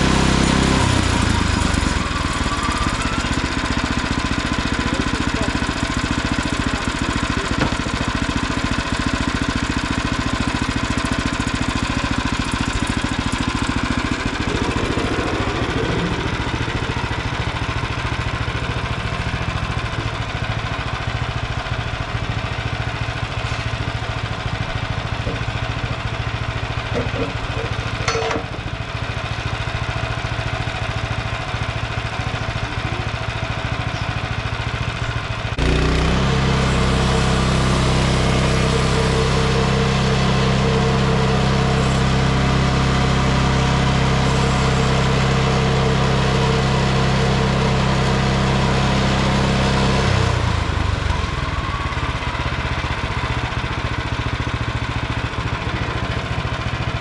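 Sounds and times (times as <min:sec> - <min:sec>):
small gasoline engine idling and revving: 0:00.0 - 0:57.0.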